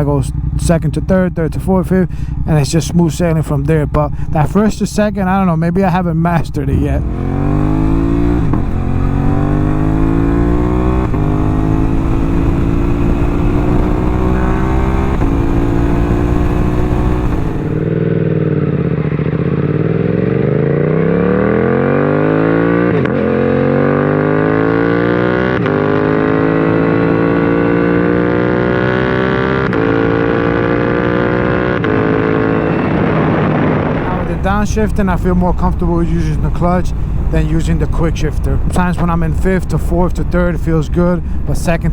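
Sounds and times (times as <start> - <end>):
motorcycle accelerating through gears: 2.1 - 2.5, 6.6 - 41.9.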